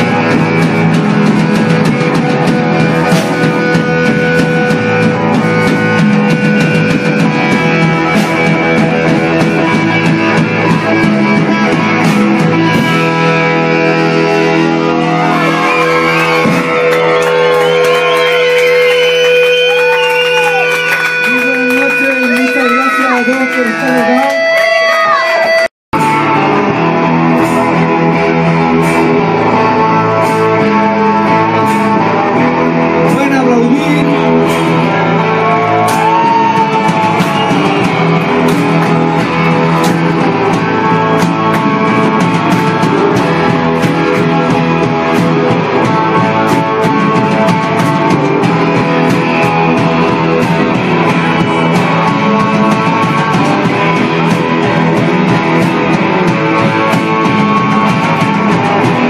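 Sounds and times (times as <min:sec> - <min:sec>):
drums steady beat: 0:00.0 - 0:59.0
electric guitars: 0:00.0 - 0:59.0.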